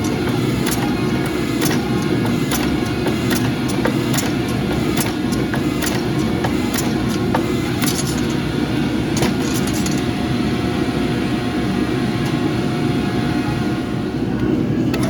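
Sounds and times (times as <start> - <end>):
gas forge burner roar: 0.0 - 15.0.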